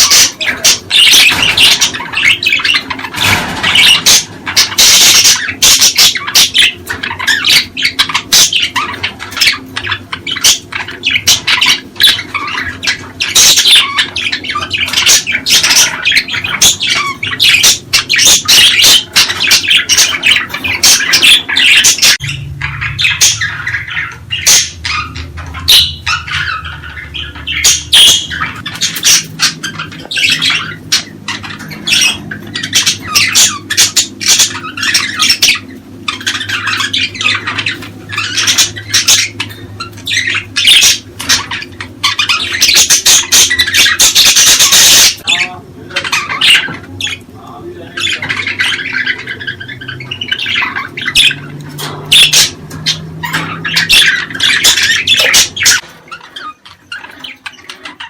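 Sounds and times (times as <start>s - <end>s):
budgerigars chattering and squawking: 0.0s - 58.0s.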